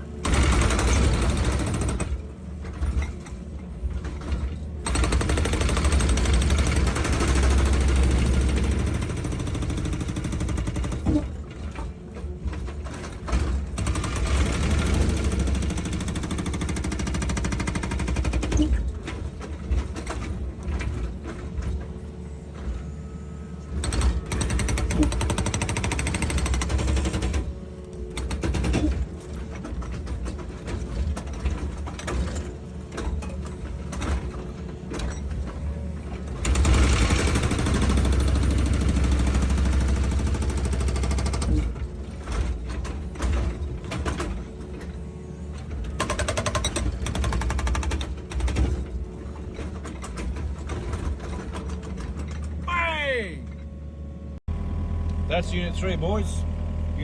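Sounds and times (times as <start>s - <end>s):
excavator diesel engine: 0.0s - 57.0s
knocks and clatter: 0.2s - 22.9s, 23.8s - 52.6s.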